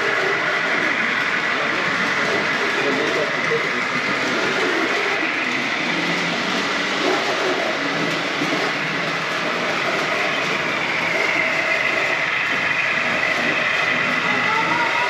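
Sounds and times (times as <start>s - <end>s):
model trains rumbling on track: 0.0s - 15.0s.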